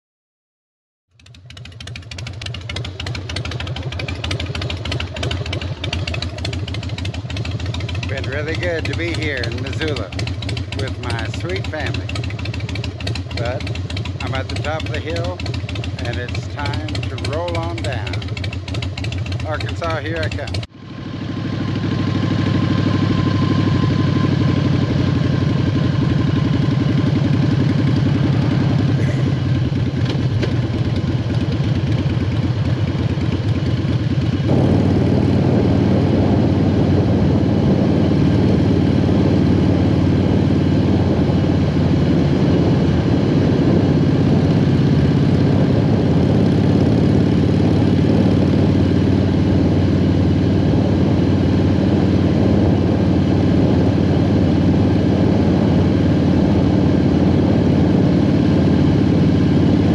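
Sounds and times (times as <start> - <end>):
motorcycle engine running: 1.1 - 59.9.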